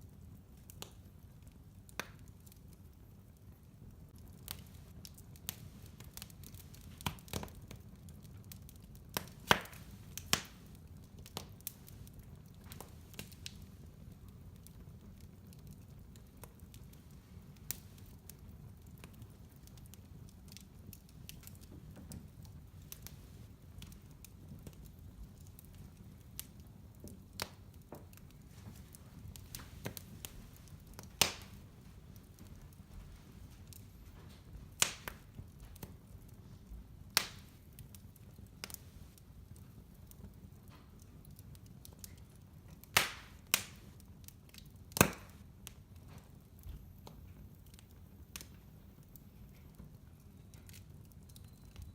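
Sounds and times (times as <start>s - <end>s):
low rumble of burning fire: 0.0s - 51.9s
wood fire crackling and popping: 0.0s - 51.9s.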